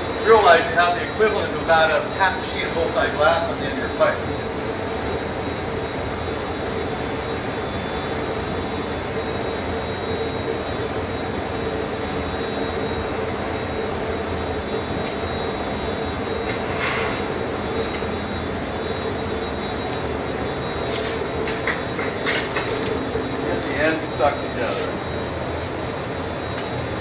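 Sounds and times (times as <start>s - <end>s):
gas burner rushing: 0.0s - 27.0s
low hum: 0.0s - 27.0s.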